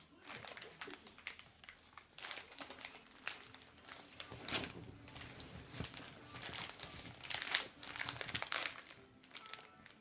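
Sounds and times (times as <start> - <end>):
crisp packet crinkling: 0.0 - 10.0.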